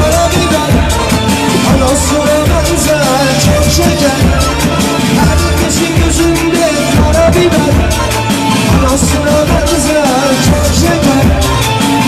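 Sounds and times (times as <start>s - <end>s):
drums: 0.0s - 12.0s
loud dance music: 0.0s - 12.0s
person singing: 0.0s - 12.0s.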